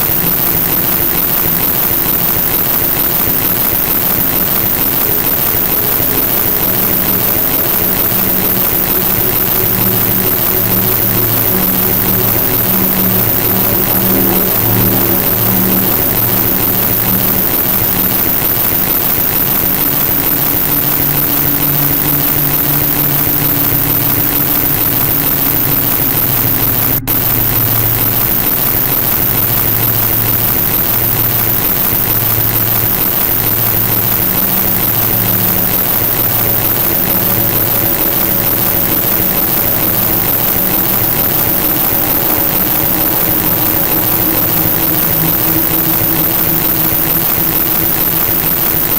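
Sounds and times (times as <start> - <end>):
loud steady hiss: 0.0 - 48.9
pulsing low hum: 0.0 - 48.9.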